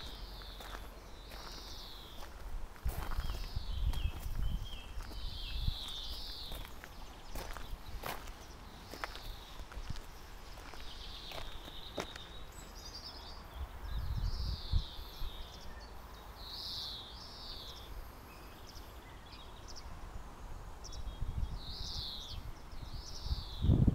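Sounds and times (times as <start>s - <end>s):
faint outdoor hiss: 0.0s - 23.9s
songbirds singing: 0.0s - 23.9s.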